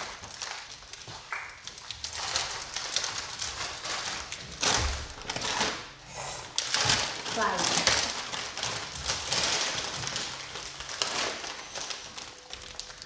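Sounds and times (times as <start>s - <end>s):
plastic wrappers crinkling: 0.0s - 13.0s.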